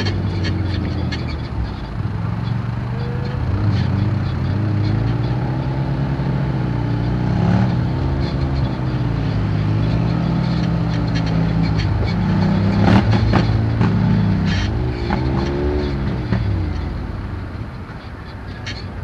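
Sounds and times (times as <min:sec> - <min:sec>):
quad engines running: 0:00.0 - 0:19.0.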